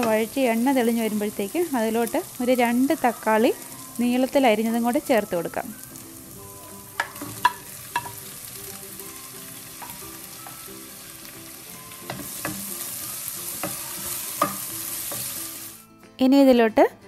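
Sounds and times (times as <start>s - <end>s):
onions frying in oil: 0.0s - 15.8s.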